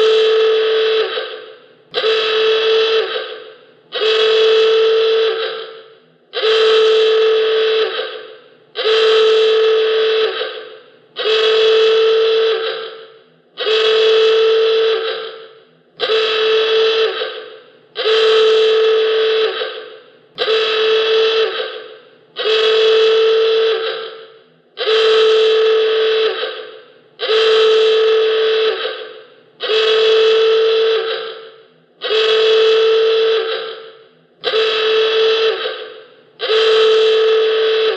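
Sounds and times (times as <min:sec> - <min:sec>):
alarm klaxon honking blasts: 0:00.0 - 0:37.9.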